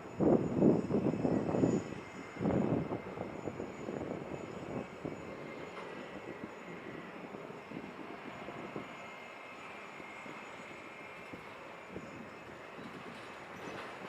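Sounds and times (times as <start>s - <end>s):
jet airliner engines rumbling: 0.0s - 14.0s.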